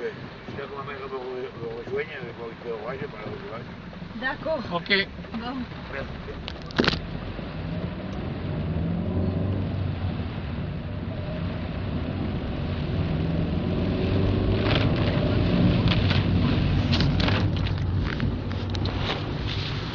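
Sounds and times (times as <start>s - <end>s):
vehicle engine hum: 0.0s - 19.9s.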